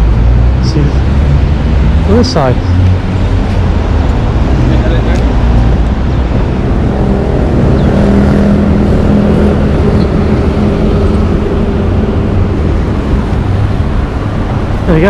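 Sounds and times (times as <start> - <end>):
road traffic: 0.0 - 15.0
vehicle engine humming: 0.0 - 15.0.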